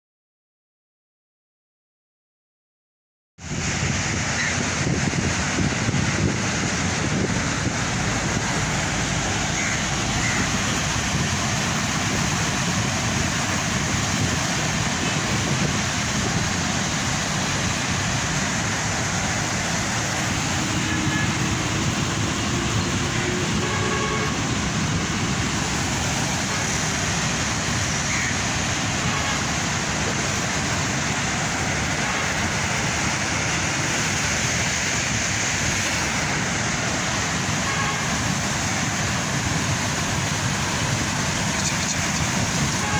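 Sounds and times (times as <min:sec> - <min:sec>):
floodwater rushing through gates: 0:03.5 - 0:42.9.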